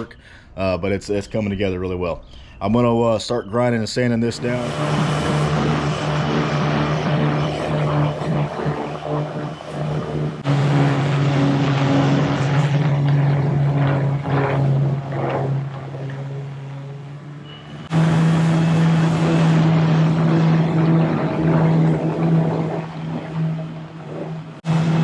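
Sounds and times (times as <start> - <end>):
grinder-sander motor whining: 4.3 - 25.0.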